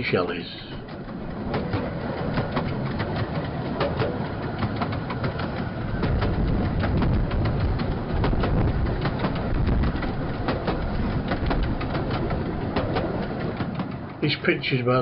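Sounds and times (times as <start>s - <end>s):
train wheels rumbling: 0.0s - 15.0s
wheels clicking over rail joints: 0.0s - 15.0s.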